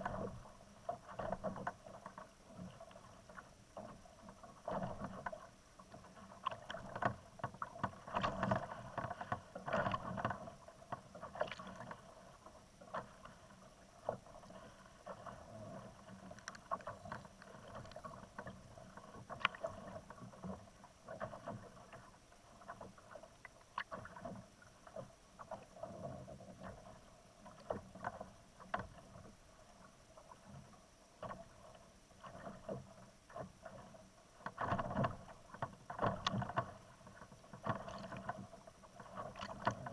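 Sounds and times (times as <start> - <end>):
waves slapping kayak hull: 0.0 - 39.9.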